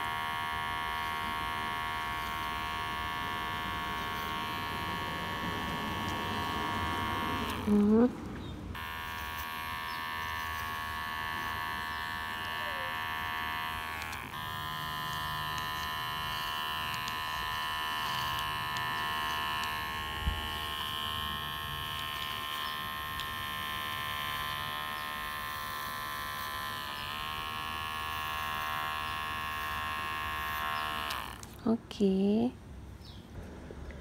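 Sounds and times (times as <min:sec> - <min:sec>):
electric hair clipper humming: 0:00.0 - 0:31.7.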